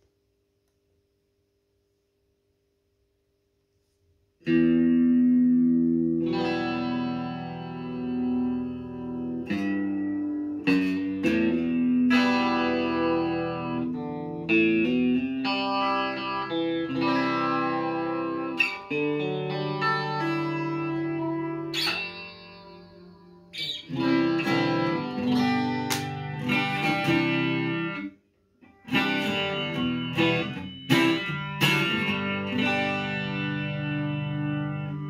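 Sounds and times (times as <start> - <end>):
electric guitar chords with chorus: 4.4 - 28.1, 28.8 - 35.0.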